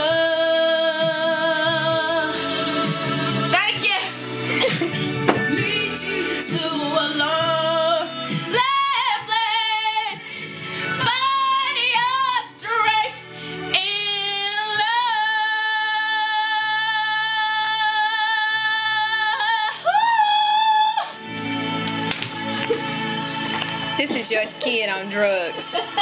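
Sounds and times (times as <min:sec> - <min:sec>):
backing music: 0:00.0 - 0:26.0
woman singing pop ballad: 0:00.0 - 0:26.0.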